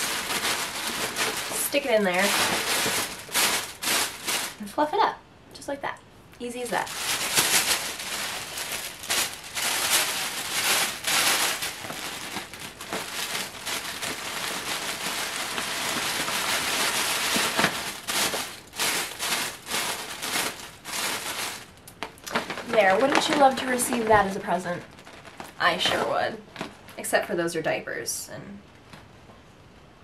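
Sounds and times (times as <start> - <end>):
tissue paper rustling: 0.0 - 4.7, 6.6 - 27.0.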